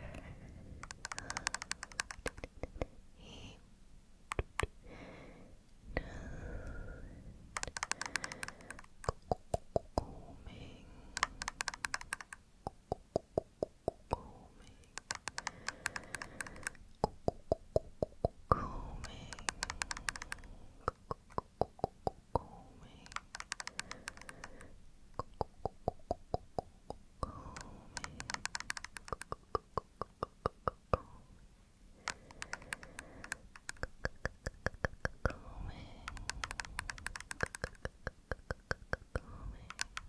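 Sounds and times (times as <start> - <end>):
comb teeth clicking on microphone: 0.0 - 3.0, 4.3 - 4.8, 7.5 - 10.2, 11.1 - 31.1, 32.0 - 40.0.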